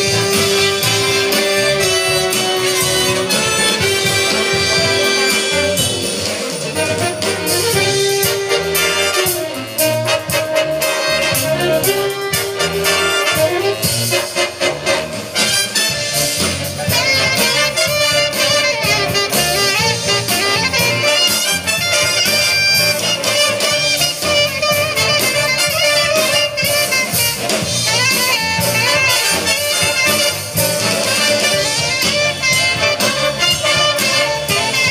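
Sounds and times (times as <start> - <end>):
bass line: 0.0 - 34.9
jazz big band playing: 0.0 - 34.9
saxophones and brass: 0.0 - 34.9.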